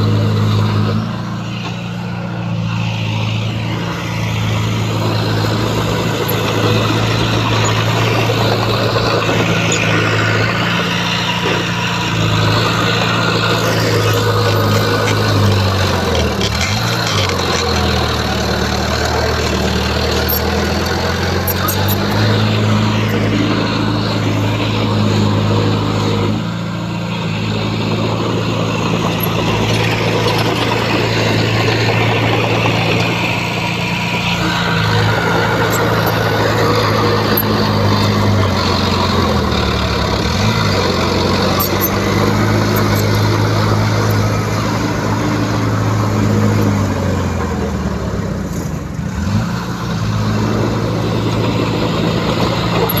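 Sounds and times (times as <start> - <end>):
heavy diesel engine running hard: 0.0 - 53.0.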